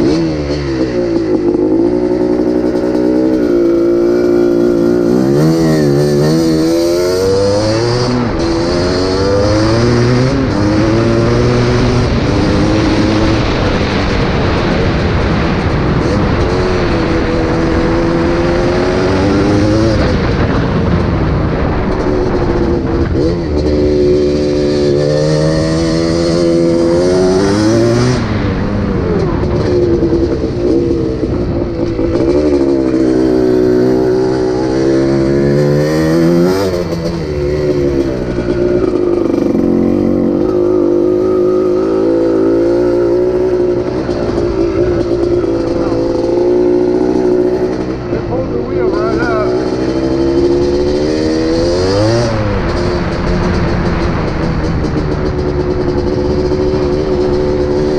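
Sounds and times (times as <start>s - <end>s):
two-stroke engine revving: 0.0s - 57.9s.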